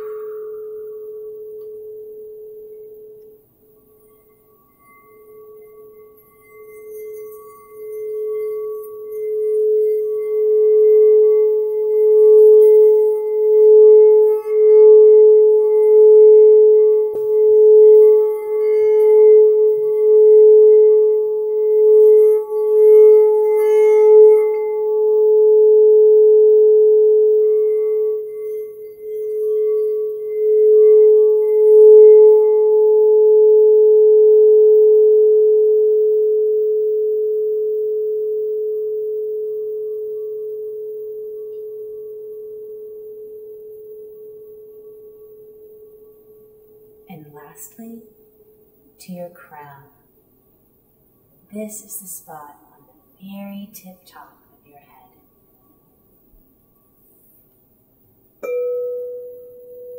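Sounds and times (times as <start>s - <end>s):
singing bowl ringing tone: 0.0s - 59.9s.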